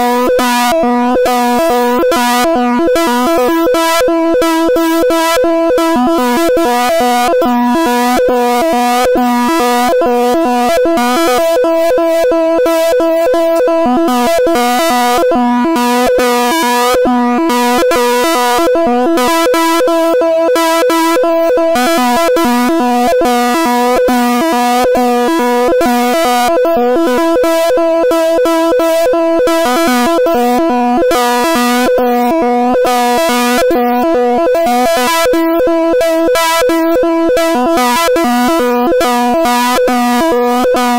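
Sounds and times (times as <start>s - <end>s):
buzzy synthetic chord: 0.0s - 40.9s.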